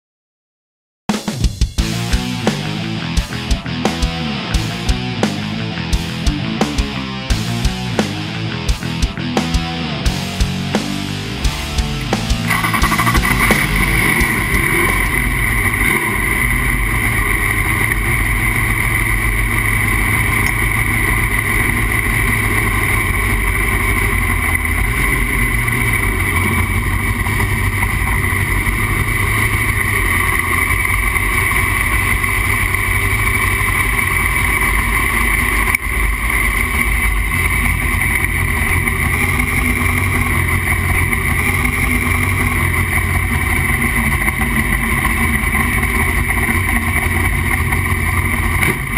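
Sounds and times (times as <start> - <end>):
boat engine running loud: 1.8 - 48.9.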